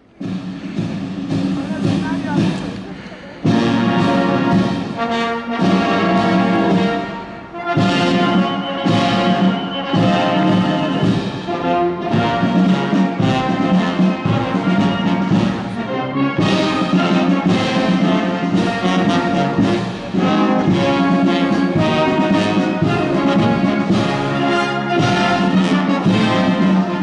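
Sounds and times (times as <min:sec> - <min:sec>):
marching band brass: 0:00.0 - 0:27.0
marching drum beat: 0:00.0 - 0:27.0.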